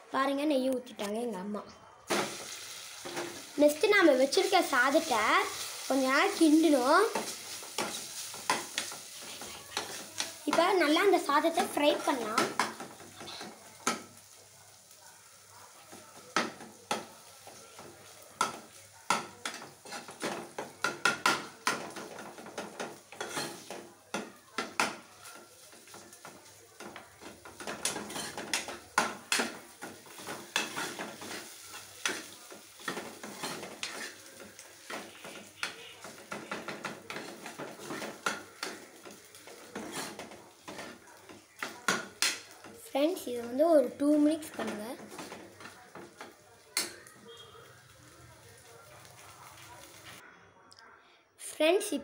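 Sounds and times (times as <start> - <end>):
faint sizzle: 0.0 - 50.6.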